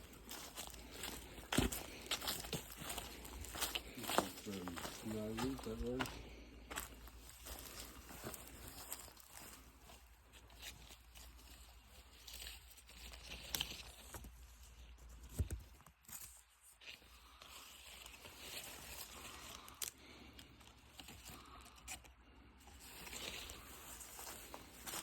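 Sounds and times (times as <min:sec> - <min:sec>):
vegetation rustling: 0:00.0 - 0:21.7, 0:22.8 - 0:25.0
footsteps through undergrowth: 0:00.0 - 0:21.8, 0:22.6 - 0:25.0.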